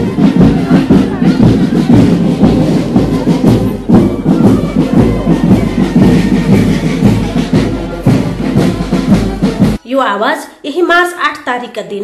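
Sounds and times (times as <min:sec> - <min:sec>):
live street music: 0:00.0 - 0:09.9.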